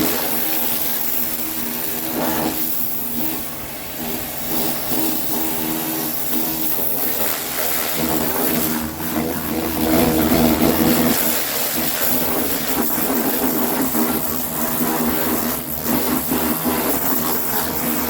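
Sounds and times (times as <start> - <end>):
pressure washer pump humming: 0.0 - 18.0
water jet spraying metal: 0.0 - 18.0.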